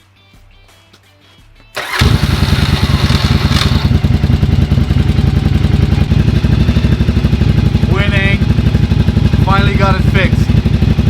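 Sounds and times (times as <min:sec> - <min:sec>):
motorcycle engine running: 0:01.8 - 0:11.0.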